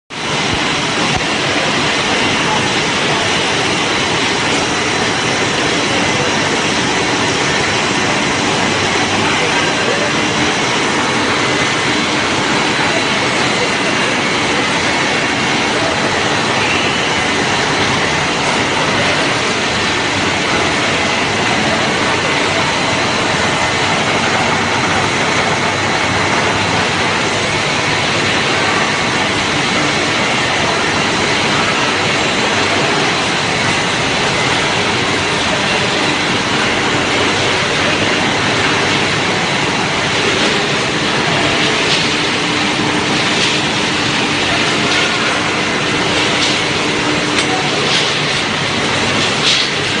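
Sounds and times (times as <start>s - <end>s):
loud machinery noise: 0.1s - 50.0s.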